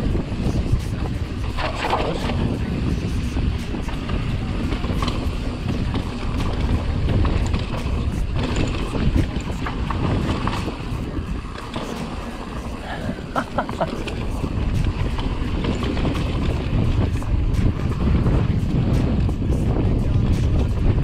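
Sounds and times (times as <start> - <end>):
bike clattering and rattling: 0.0 - 21.0
bike tyre noise on dirt: 0.0 - 21.0
wind buffeting microphone: 0.0 - 21.0.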